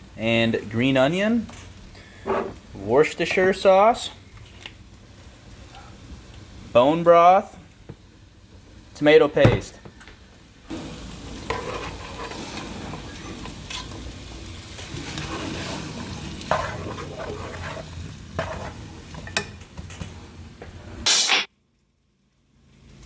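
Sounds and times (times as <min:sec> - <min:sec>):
food sizzling in a pot: 0:00.0 - 0:21.5.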